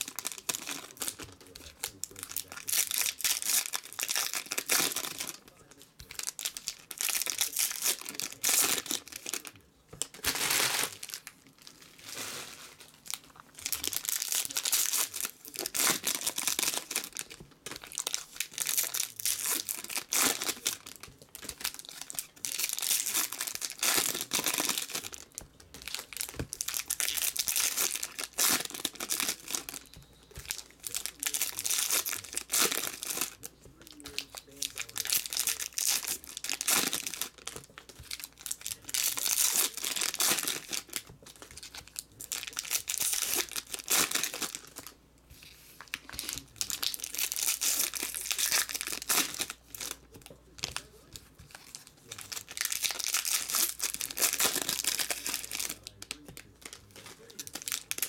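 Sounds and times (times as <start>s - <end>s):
foil wrappers crinkling: 0.0s - 58.0s.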